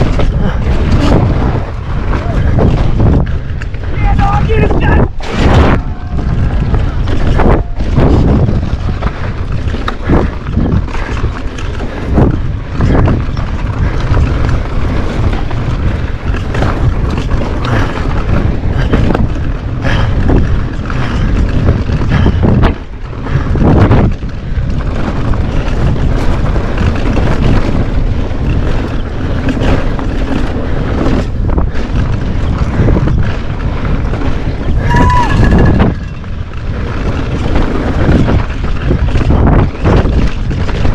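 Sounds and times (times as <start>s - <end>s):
bike knocking and rattling: 0.0s - 40.9s
tyres rumbling on dirt: 0.0s - 40.9s
wind buffeting microphone: 0.0s - 40.9s.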